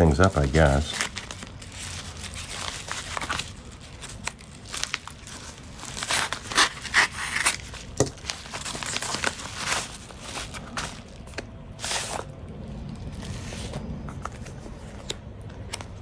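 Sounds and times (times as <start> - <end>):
paper crinkling and tearing: 0.0 - 16.0.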